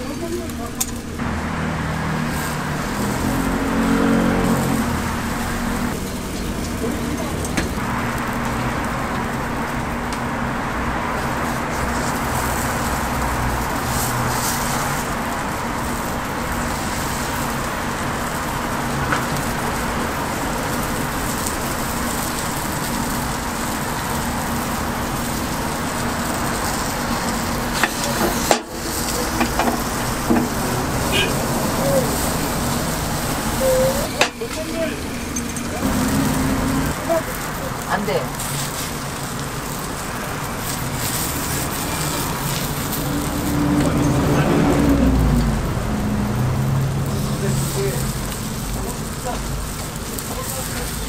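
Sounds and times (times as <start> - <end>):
street traffic: 0.0 - 51.0.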